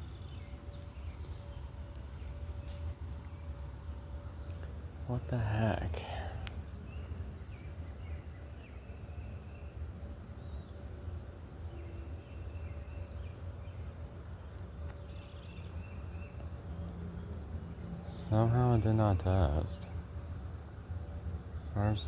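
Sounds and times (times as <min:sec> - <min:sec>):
low outdoor rumble: 0:00.0 - 0:22.0
songbirds chirping: 0:00.0 - 0:22.0.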